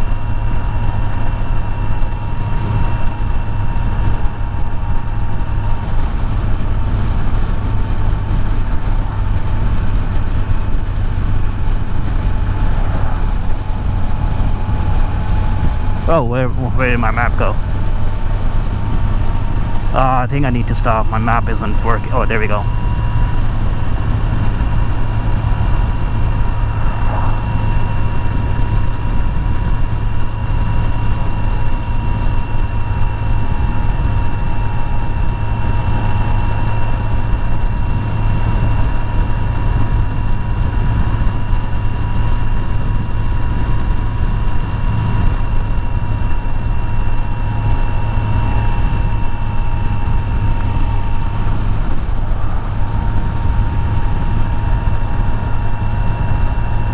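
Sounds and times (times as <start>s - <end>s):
motorcycle engine cruising: 0.0s - 16.5s, 17.5s - 20.4s, 21.8s - 56.9s
road and wind noise: 0.0s - 56.9s.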